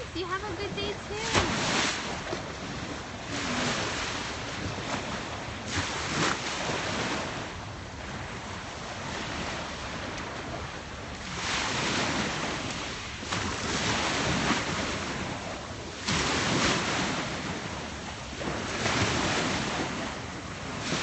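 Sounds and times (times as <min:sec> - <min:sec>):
small waves washing on shore: 0:00.0 - 0:21.0.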